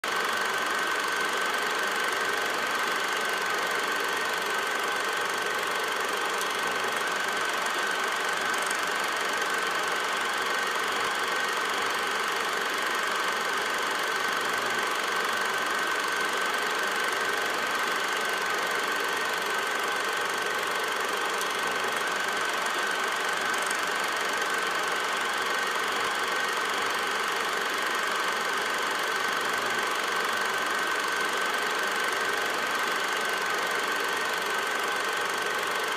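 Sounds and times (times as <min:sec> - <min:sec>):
film projector whirring: 0:00.0 - 0:35.9.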